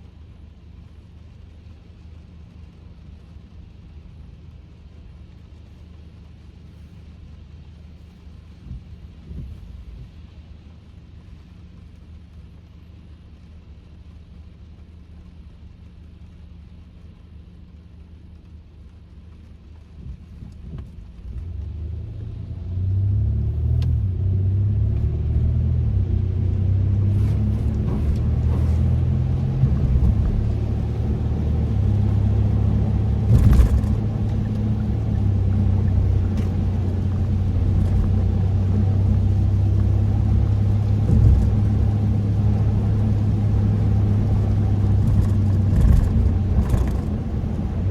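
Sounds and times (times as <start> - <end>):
engine and road noise rumble: 0.0 - 47.9
low cabin hum: 0.0 - 47.9.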